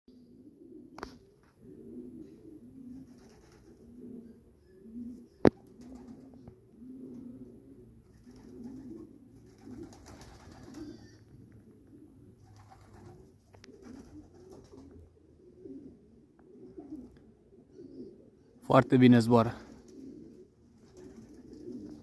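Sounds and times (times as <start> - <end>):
pigeons cooing: 0.1 - 22.0.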